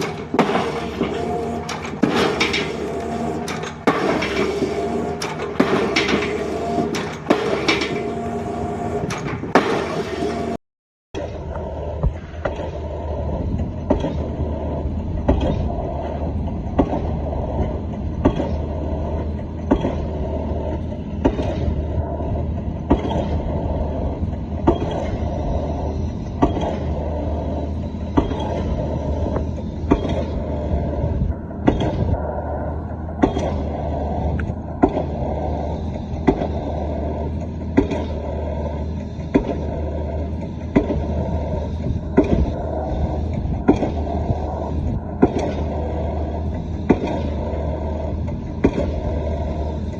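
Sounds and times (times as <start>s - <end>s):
engine hum: 0.0s - 10.6s, 11.2s - 49.9s.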